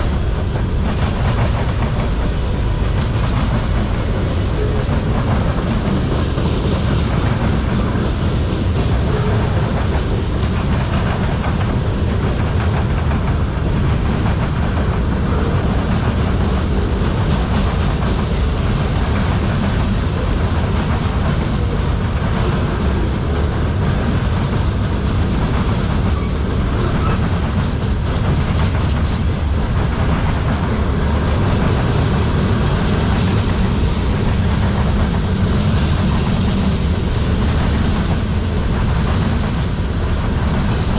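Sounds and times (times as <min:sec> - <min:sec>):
train wheels on rails: 0:00.0 - 0:40.9.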